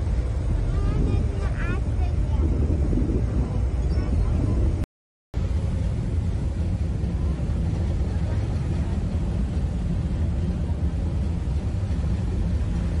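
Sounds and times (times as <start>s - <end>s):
rushing water: 0.0s - 4.8s, 5.4s - 13.0s
ferry engine drone: 0.0s - 13.0s
wind: 0.0s - 13.0s.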